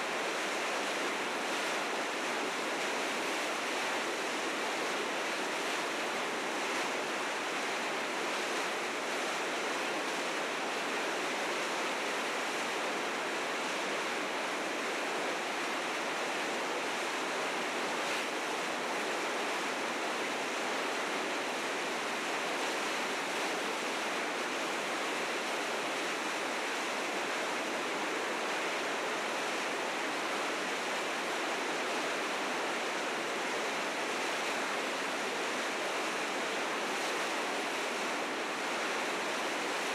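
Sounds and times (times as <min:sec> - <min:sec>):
river rapids roaring: 0:00.0 - 0:39.9.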